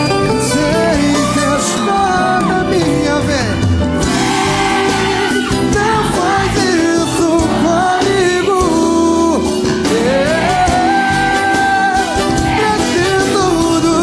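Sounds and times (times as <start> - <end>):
band with horn section: 0.0 - 14.0
drum kit: 0.0 - 14.0
person singing: 0.0 - 14.0.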